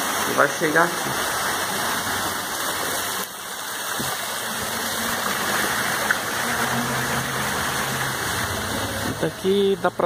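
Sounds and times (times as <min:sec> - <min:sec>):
water falling from cascades: 0:00.0 - 0:10.0.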